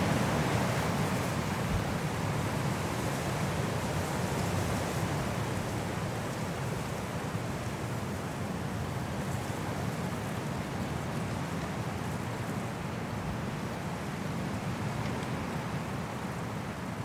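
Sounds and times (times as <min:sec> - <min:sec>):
strong wind through trees: 0:00.0 - 0:17.0.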